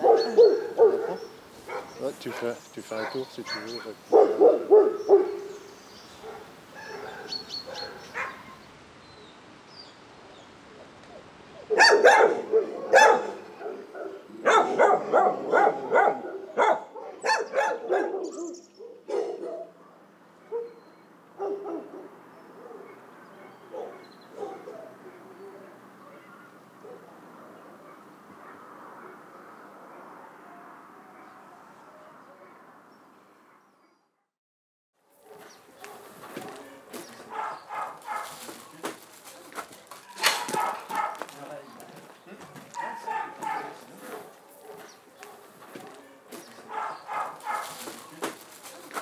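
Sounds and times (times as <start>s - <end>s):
dogs barking: 0.0s - 8.7s, 11.6s - 33.9s, 35.2s - 49.0s.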